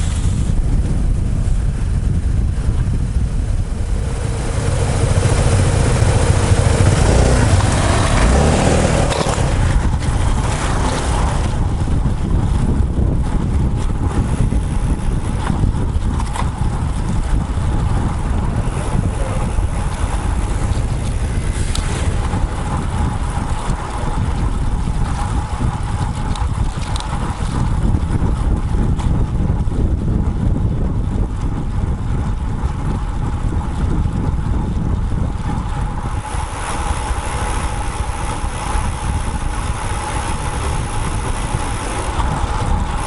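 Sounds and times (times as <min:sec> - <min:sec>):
wind rumble on microphone: 0:00.0 - 0:43.0.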